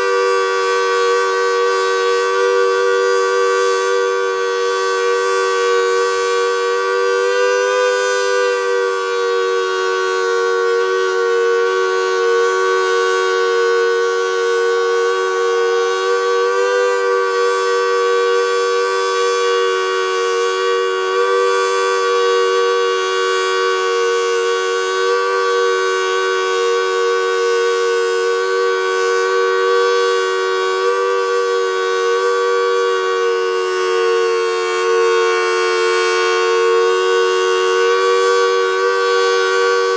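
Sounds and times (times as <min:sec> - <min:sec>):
dual-tone siren wailing: 0:00.0 - 0:39.9.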